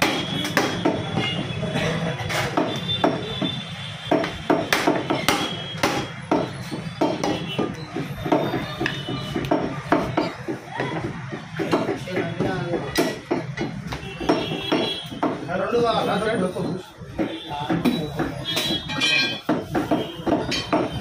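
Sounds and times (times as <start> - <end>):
cleaver chopping meat on wood: 0.0 - 1.5, 2.3 - 15.5, 17.1 - 21.0.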